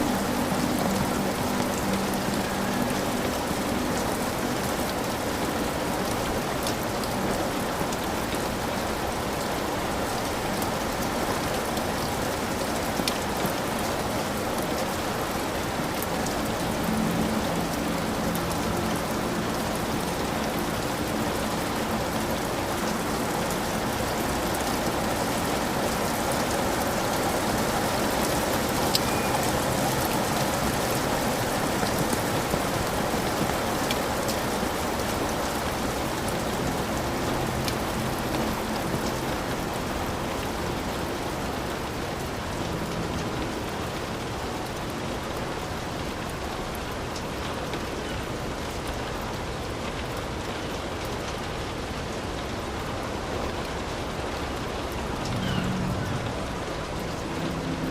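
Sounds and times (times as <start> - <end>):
heavy rain on a roof: 0.0 - 57.9.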